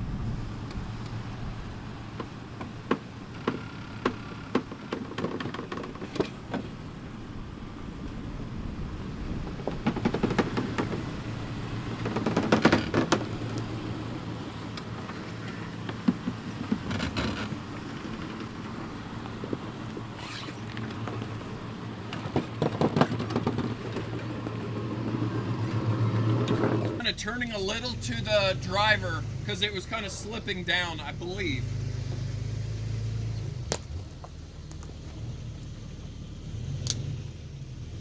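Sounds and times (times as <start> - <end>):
tires scraping on rock: 0.0 - 38.0
vehicle engine running slowly: 0.0 - 38.0.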